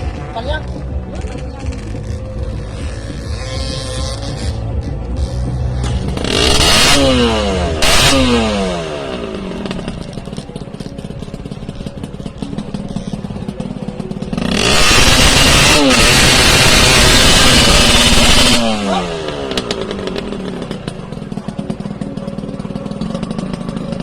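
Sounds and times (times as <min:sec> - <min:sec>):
engine idling unevenly: 0:00.0 - 0:24.0
off-road vehicle engine revving: 0:00.0 - 0:24.0.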